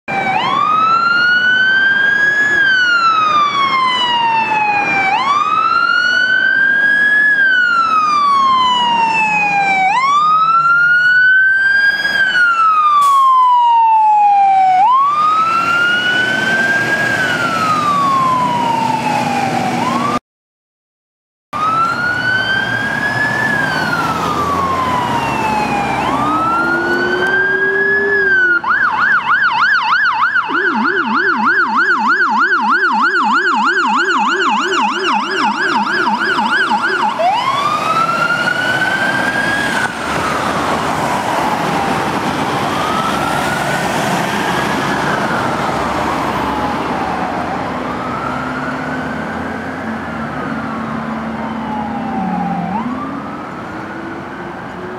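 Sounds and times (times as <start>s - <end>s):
fire engine sirens wailing: 0.1s - 20.2s, 21.6s - 54.9s
low-pitched siren yelping: 0.1s - 20.2s, 21.6s - 54.9s.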